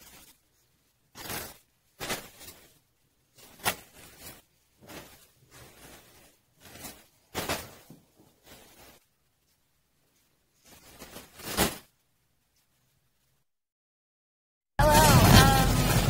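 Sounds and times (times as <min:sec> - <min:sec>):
fabric swishes and rustles: 0:00.0 - 0:13.4.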